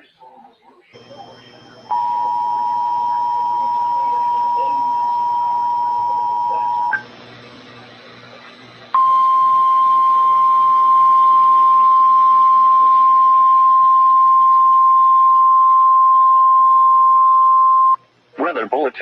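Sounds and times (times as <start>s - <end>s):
faint radio hiss: 0.0s - 19.0s
steady alarm tone: 1.0s - 7.5s, 8.9s - 18.0s.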